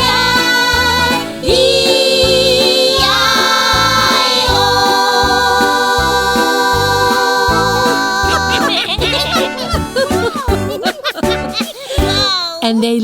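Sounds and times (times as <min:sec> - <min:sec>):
children's song music: 0:00.0 - 0:13.0.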